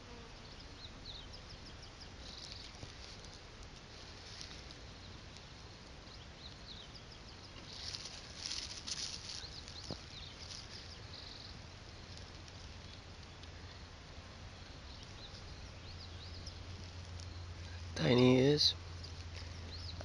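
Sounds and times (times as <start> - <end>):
faint low outdoor rumble: 0.0 - 20.0
small birds chirping: 0.0 - 20.0.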